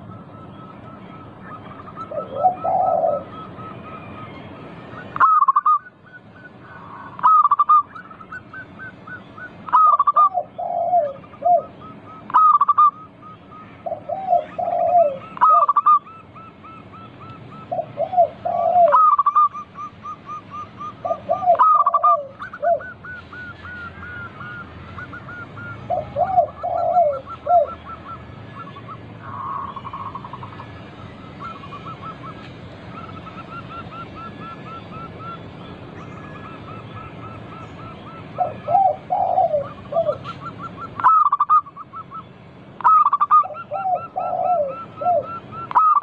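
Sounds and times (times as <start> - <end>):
doves cooing: 0.0 - 46.0
faint steady bird twitter: 0.0 - 46.0.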